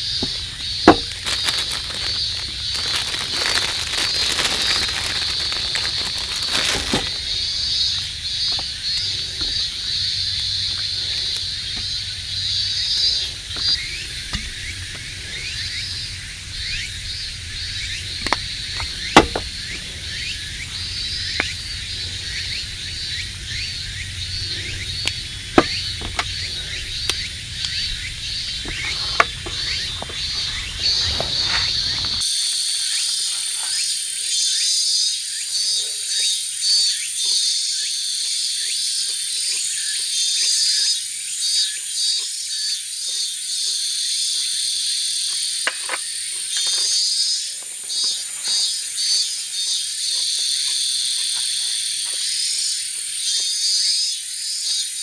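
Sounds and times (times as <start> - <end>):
insects and frogs pulsing calls: 0.0 - 55.0.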